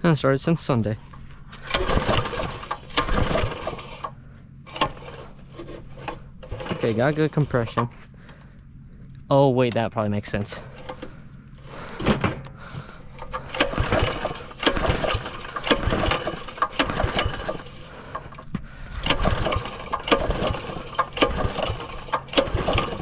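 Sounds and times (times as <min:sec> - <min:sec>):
engine pull-start cranking: 0:01.5 - 0:08.0, 0:10.6 - 0:23.0.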